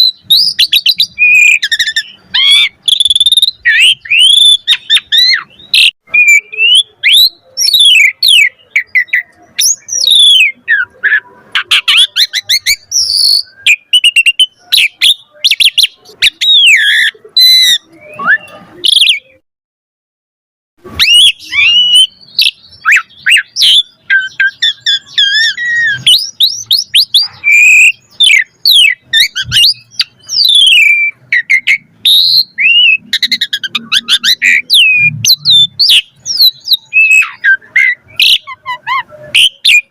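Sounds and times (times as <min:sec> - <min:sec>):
starling singing: 0:00.0 - 0:19.4, 0:20.8 - 0:39.9.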